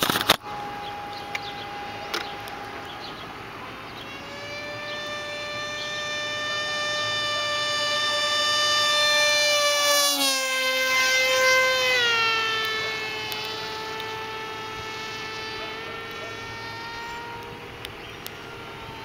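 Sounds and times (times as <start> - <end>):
warning siren wailing: 0.4 - 19.0.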